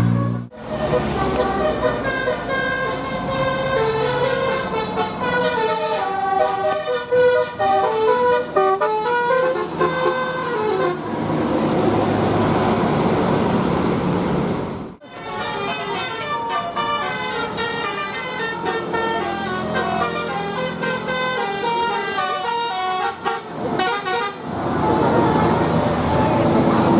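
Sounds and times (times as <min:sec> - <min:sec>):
musical bus horns: 0:00.0 - 0:12.3, 0:15.0 - 0:26.9.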